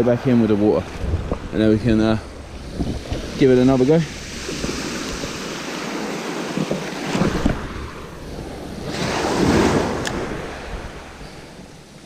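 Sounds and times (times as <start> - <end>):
sea waves washing on shore: 0.0 - 12.0
wind buffeting microphone: 0.0 - 12.0.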